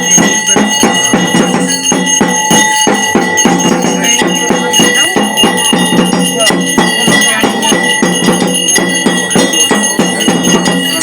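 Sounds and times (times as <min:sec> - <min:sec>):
drum strokes: 0:00.0 - 0:11.0
ringing bell: 0:00.0 - 0:11.0.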